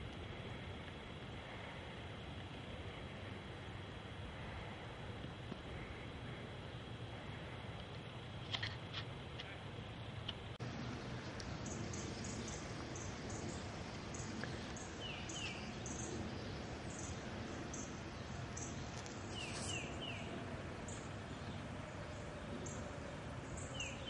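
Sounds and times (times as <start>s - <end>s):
outdoor background rumble: 0.0s - 24.0s.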